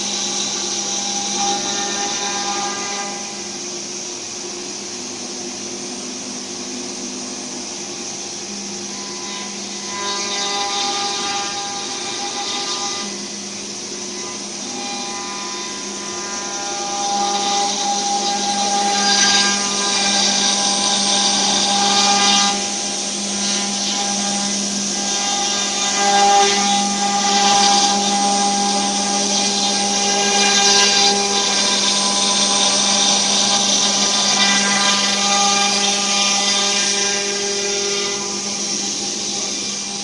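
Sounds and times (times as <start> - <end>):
router spindle whine: 0.0 - 40.0
cutter cutting wood: 7.8 - 40.0.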